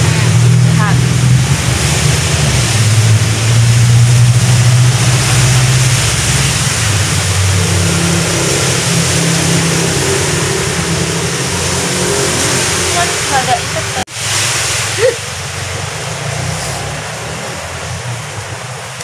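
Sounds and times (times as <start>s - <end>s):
heavy rain hissing: 0.0s - 19.0s
vehicle engine humming: 0.0s - 19.0s.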